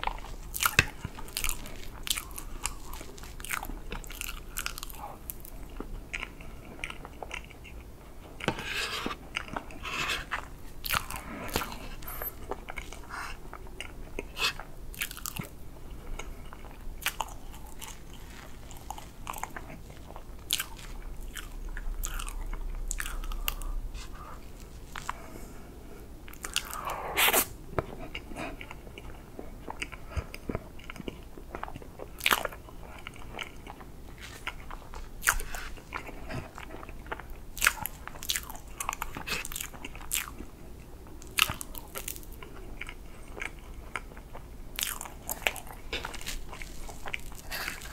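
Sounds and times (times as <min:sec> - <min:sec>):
wet chewing and mouth sounds: 0:00.0 - 0:47.9.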